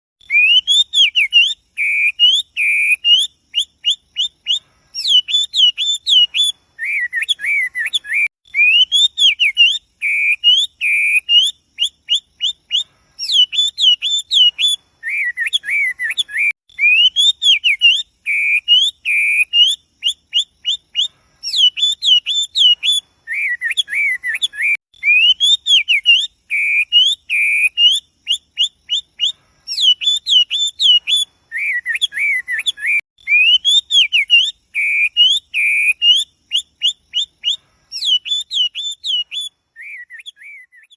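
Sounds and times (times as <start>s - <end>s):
bird singing whistled song: 0.2s - 40.9s.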